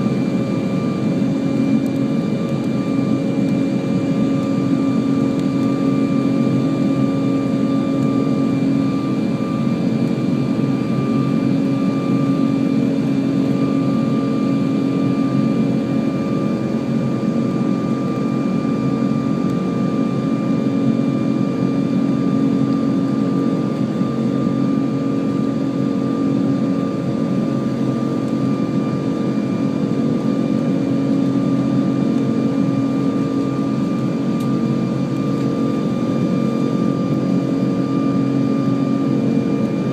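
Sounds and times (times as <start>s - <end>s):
high steady whine: 0.0s - 39.9s
jet engines heard from cabin: 0.0s - 39.9s.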